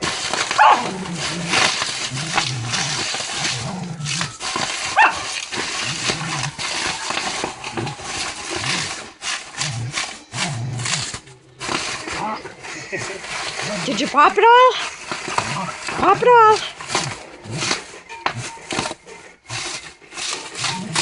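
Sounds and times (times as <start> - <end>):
dog growling in play: 0.0 - 14.2, 14.8 - 21.0
bubble wrap crinkling and popping: 0.0 - 21.0.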